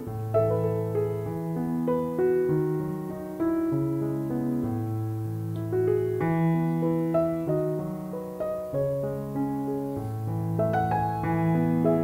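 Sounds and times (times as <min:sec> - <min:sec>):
slow solo piano music: 0:00.0 - 0:12.0.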